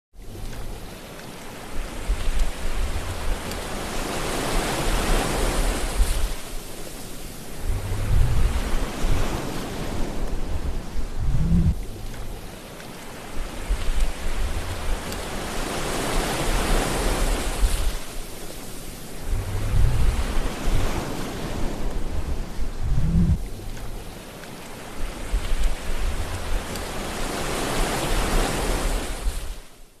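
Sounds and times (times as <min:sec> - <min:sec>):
ocean surf rushing: 0:00.2 - 0:29.8
wind rumbling on microphone: 0:00.2 - 0:29.8.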